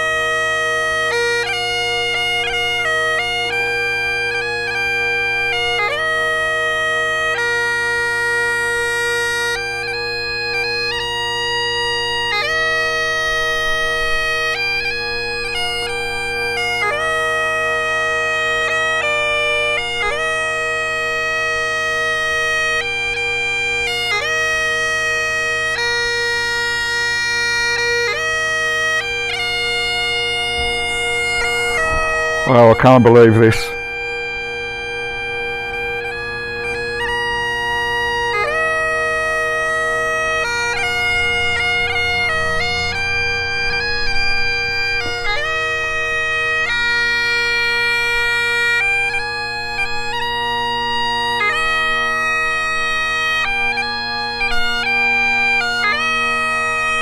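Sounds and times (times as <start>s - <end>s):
bagpipe chanter melody: 0.0s - 57.0s
bagpipe drones: 0.0s - 57.0s.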